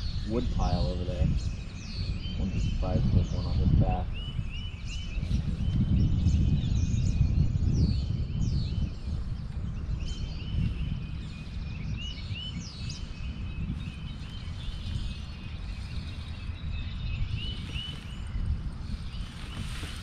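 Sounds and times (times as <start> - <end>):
birds chirping: 0.0 - 20.0
low rumble: 0.0 - 20.0.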